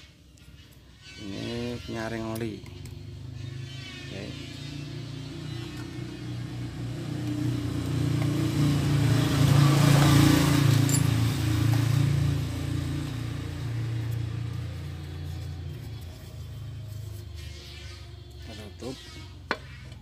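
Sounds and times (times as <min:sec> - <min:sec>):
vehicle engine passing by: 0:03.0 - 0:19.1.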